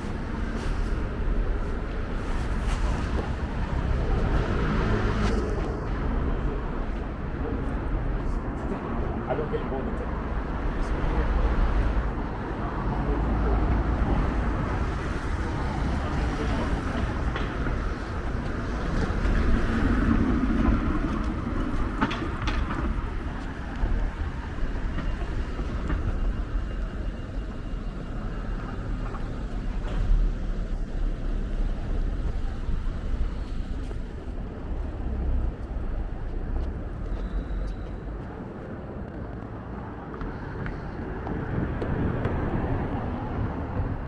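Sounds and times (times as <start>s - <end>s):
low rumble of city ambience: 0.0s - 44.0s
passing vehicles: 0.0s - 44.0s.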